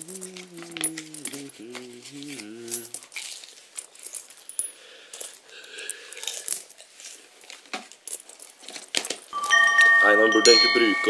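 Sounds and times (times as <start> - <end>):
coins clinking: 0.0 - 11.0.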